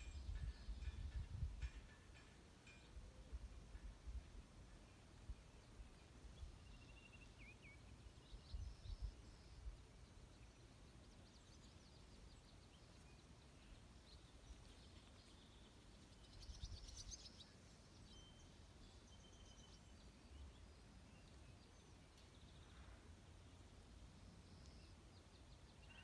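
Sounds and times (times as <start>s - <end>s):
small birds chirping: 4.9s - 26.0s.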